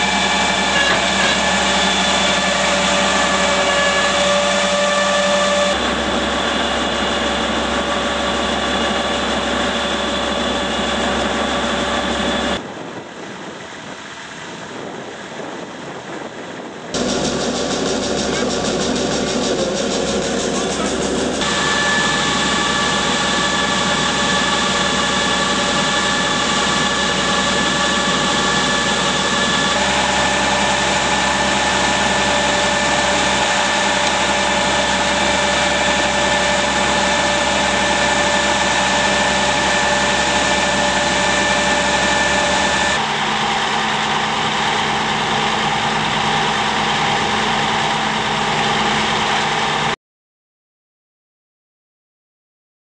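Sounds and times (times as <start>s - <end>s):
auger drive whining: 0.0s - 12.6s, 17.0s - 49.9s
tractor engine running: 0.0s - 13.5s, 14.2s - 50.0s.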